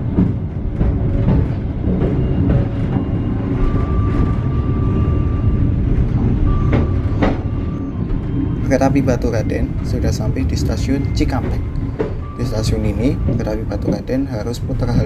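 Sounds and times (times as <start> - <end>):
train rumbling over rail joints: 0.0 - 15.0
thin steady squeal: 1.9 - 15.0.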